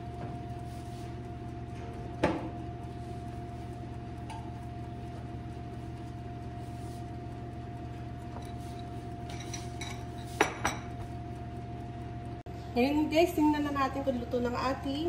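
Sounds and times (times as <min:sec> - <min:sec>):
electric oven humming: 0:00.0 - 0:15.0.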